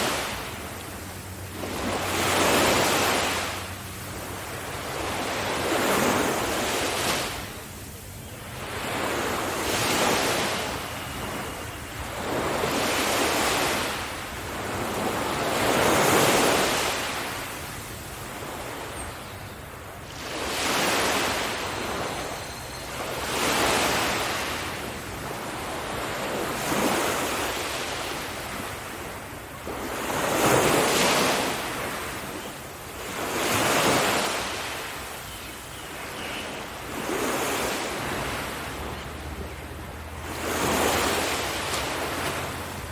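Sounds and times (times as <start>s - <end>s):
sea waves breaking on beach: 0.0s - 42.9s.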